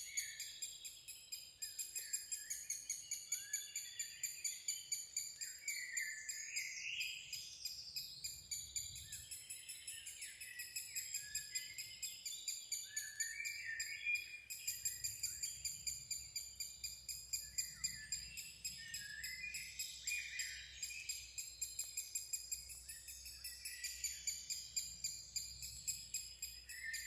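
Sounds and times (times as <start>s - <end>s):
whistled birdsong: 0.0s - 27.0s.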